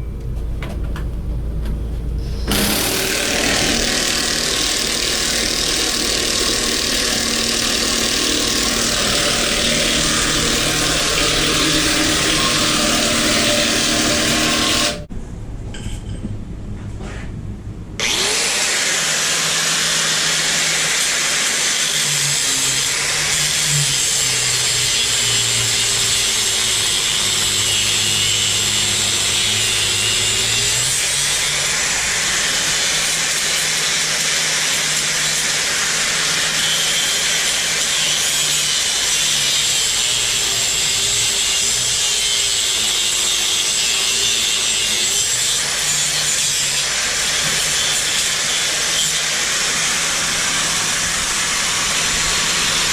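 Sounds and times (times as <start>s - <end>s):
power tool grinding through wood: 2.5s - 15.1s, 18.0s - 52.9s.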